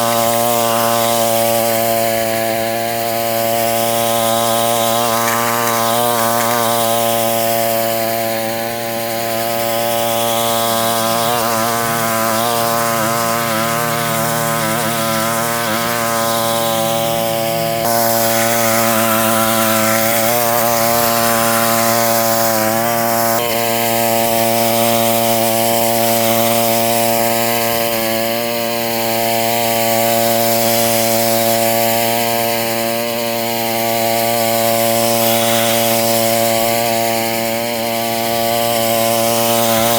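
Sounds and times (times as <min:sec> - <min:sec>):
wire brush scraping pavement: 0:00.0 - 0:27.6, 0:31.2 - 0:39.9
petrol-engined brush machine running: 0:00.0 - 0:39.9.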